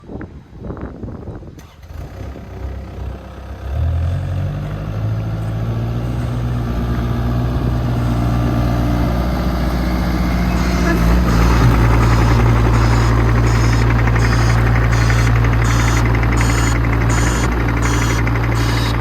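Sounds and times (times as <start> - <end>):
diesel engine running: 1.5 - 19.0.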